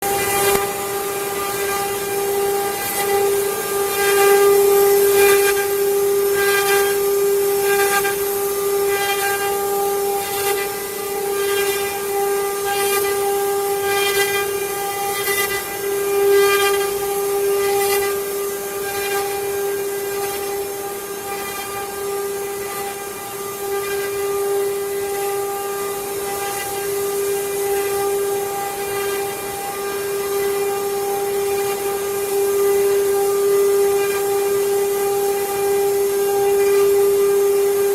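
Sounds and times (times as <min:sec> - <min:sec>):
router bit cutting wood: 0:00.0 - 0:37.9
router spindle whine: 0:00.0 - 0:37.9.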